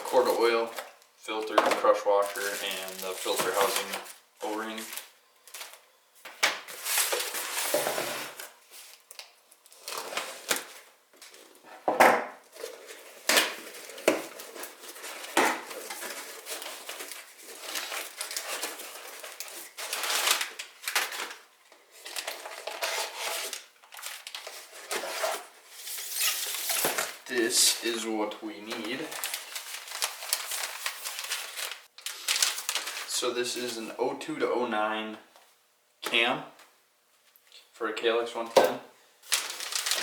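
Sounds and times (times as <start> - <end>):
packaging rustling and crinkling: 0.0 - 11.6, 12.4 - 33.8, 39.2 - 40.0.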